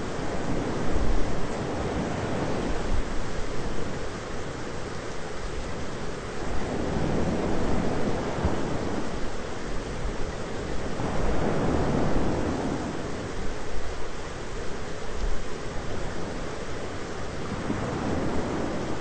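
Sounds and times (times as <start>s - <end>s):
rain and wind hiss: 0.0s - 19.0s.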